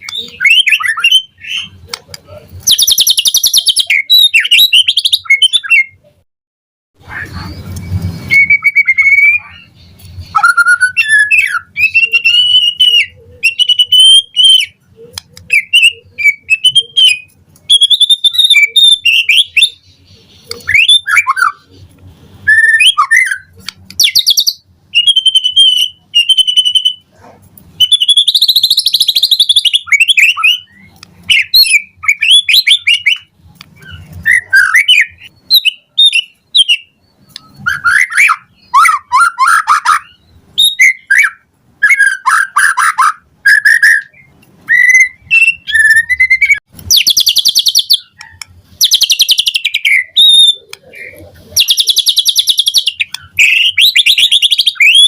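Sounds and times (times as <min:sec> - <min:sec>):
songbird singing varied phrases: 0:00.0 - 0:06.2, 0:07.1 - 0:27.2, 0:27.8 - 0:55.0.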